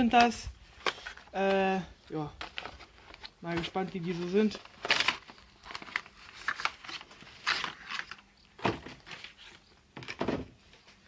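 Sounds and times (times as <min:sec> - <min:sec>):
packaging rustling and scraping: 0:00.2 - 0:01.6, 0:02.3 - 0:11.0.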